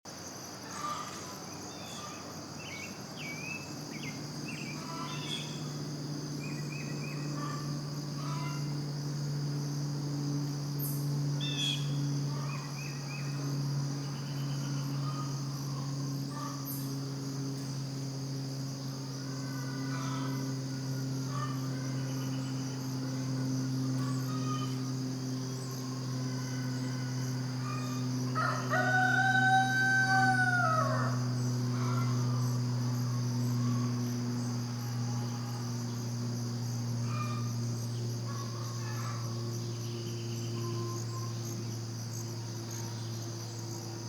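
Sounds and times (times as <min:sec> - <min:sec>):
crickets chirring: 0:00.1 - 0:44.0
low steady hum: 0:00.2 - 0:44.0.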